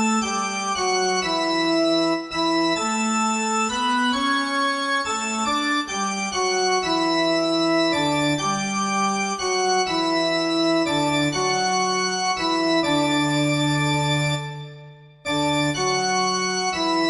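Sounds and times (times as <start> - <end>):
sustained organ chords: 0.0 - 17.0.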